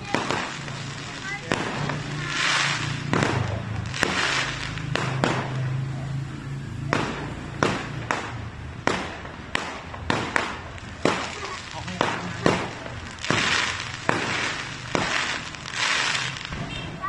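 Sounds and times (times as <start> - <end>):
crackle of sparks: 0.0 - 6.2, 6.8 - 16.9
fireworks bangs: 0.0 - 17.0.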